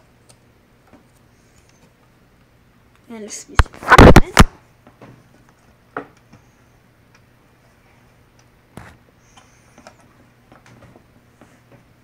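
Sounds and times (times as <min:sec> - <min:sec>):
faint clicks and knocks of parts: 0:00.0 - 0:03.7, 0:04.4 - 0:12.0.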